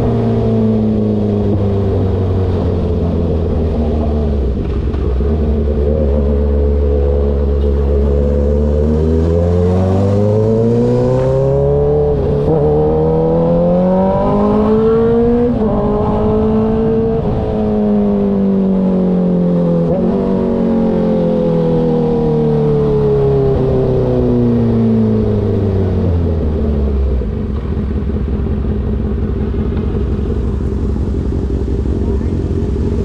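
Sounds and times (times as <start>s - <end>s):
motorcycle engine under way: 0.0s - 33.0s.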